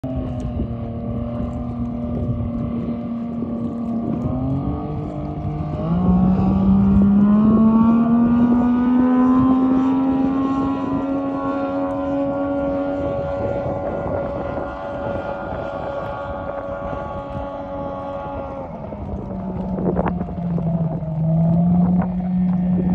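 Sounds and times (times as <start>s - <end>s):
outboard engine whine: 0.0s - 22.9s.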